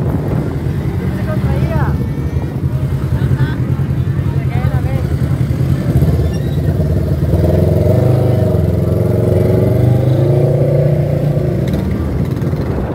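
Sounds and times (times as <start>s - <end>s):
quad bike engine passing: 0.0s - 12.9s.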